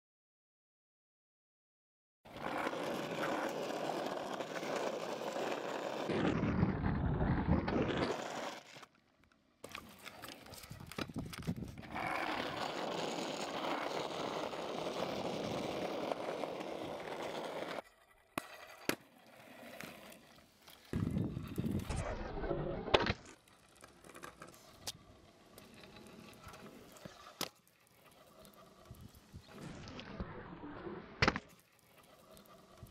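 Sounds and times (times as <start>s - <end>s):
scooter wheels rolling on asphalt: 2.3s - 32.9s.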